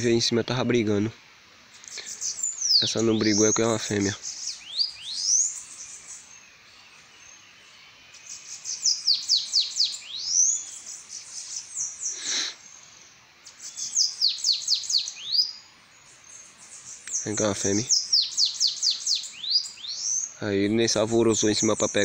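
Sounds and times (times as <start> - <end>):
bird singing high rapid notes: 1.8 - 22.0.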